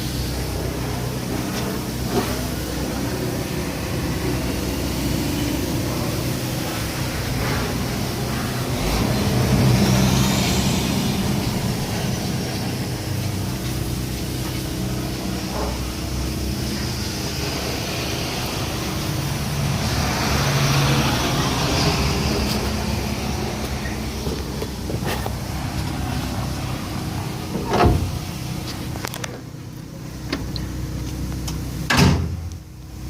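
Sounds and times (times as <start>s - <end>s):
high machine whine: 0.0s - 32.0s
diesel engine running: 0.0s - 33.0s.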